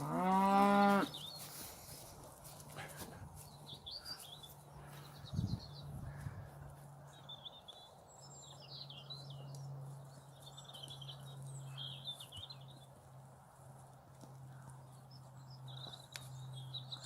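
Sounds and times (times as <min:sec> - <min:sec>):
small birds chirping: 0:00.6 - 0:17.0.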